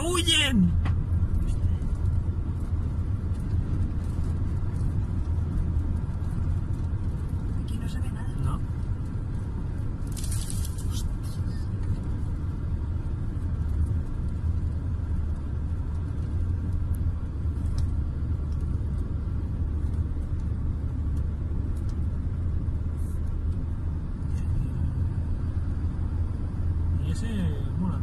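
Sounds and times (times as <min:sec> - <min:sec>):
car driving on highway: 0:00.0 - 0:28.0.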